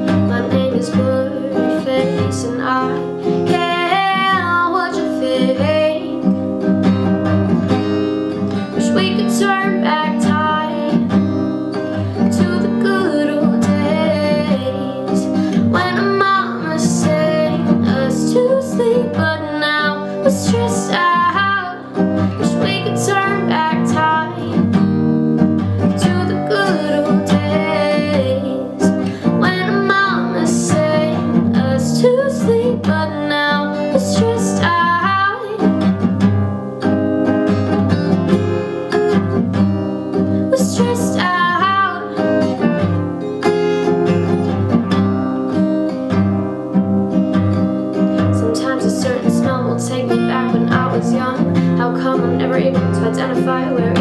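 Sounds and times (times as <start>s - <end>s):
woman singing: 0.0s - 7.0s, 8.3s - 24.9s, 25.8s - 36.1s, 38.3s - 45.2s, 47.3s - 54.0s
strummed acoustic guitar: 0.0s - 54.0s.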